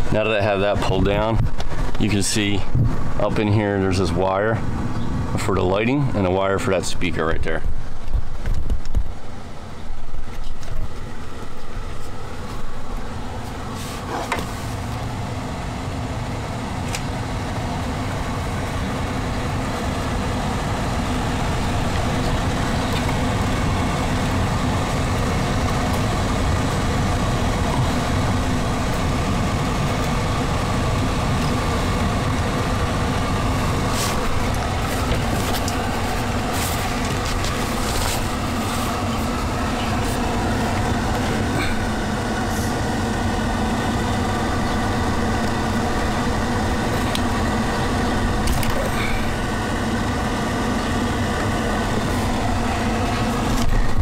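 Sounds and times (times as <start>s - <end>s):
air-conditioning blower rushing: 0.0s - 54.0s.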